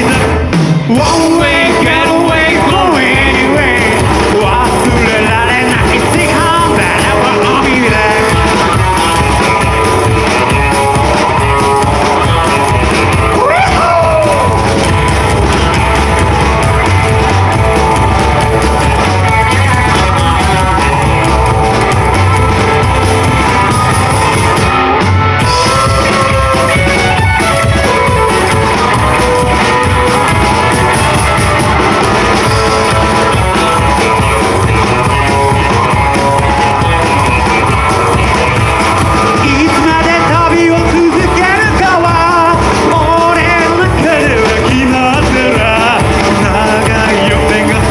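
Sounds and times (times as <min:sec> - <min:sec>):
person singing: 0:00.0 - 0:23.9, 0:25.4 - 0:47.9
rockabilly band playing live: 0:00.0 - 0:47.9.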